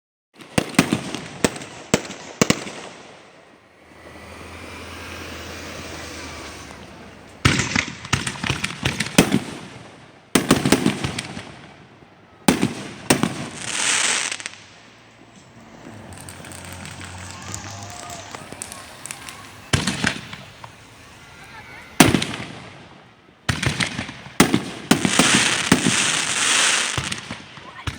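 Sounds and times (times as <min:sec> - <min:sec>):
fireworks banging and crackling: 0:00.4 - 0:27.9
fireworks hissing: 0:00.8 - 0:11.5, 0:12.5 - 0:27.4.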